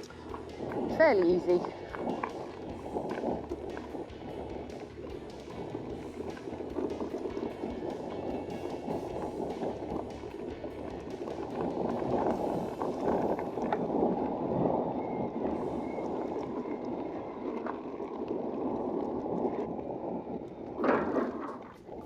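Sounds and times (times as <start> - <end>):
bike tyres crunching on gravel: 0.0 - 22.0.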